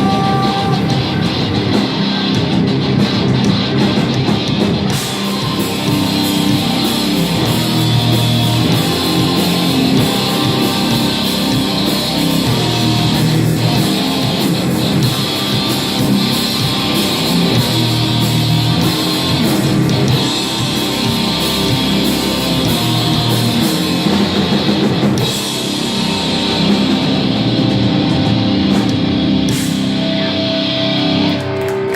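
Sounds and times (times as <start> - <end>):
heavy metal band playing: 0.0 - 31.9.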